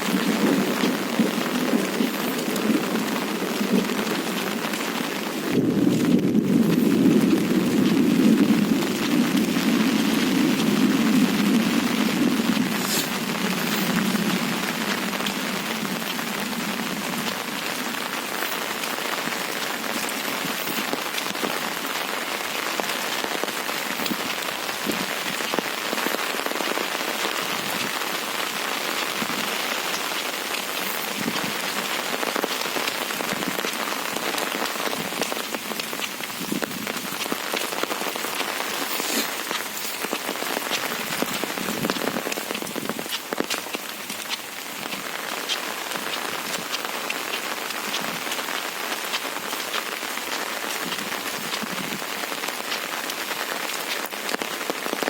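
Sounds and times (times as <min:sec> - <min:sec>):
raindrops ticking: 0:00.0 - 0:55.0
steady rain hiss: 0:00.0 - 0:55.0.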